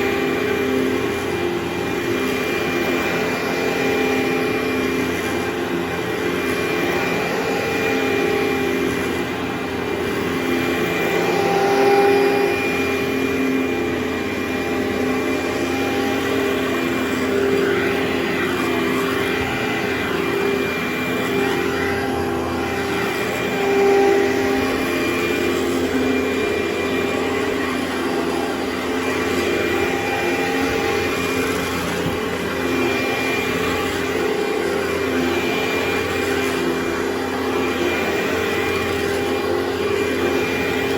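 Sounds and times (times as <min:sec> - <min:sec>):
carpet cleaning machine running: 0:00.0 - 0:40.9.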